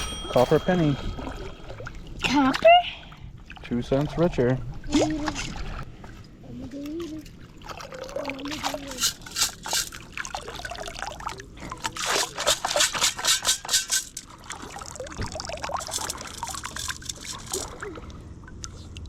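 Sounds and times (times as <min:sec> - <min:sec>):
water pouring and splashing: 0:03.4 - 0:19.0.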